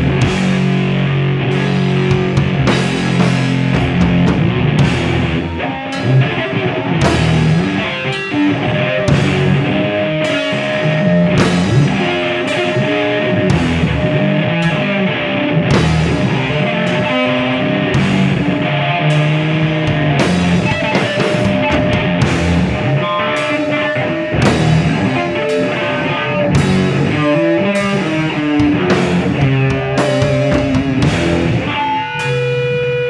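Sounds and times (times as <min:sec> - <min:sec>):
bass guitar: 0:00.0 - 0:33.0
drum kit: 0:00.0 - 0:33.0
electric guitar: 0:00.0 - 0:33.0.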